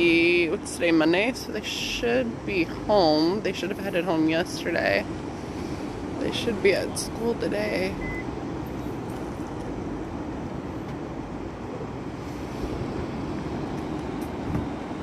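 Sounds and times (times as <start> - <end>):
ocean waves breaking: 0.0 - 9.1, 9.8 - 15.0.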